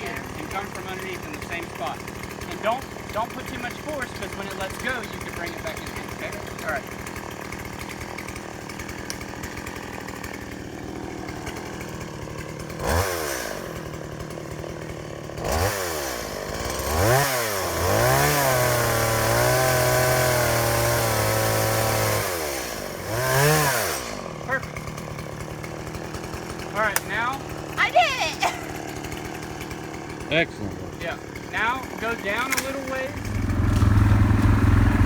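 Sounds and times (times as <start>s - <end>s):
chainsaw cutting log: 0.0s - 35.0s
chainsaw idling and revving: 0.0s - 35.0s.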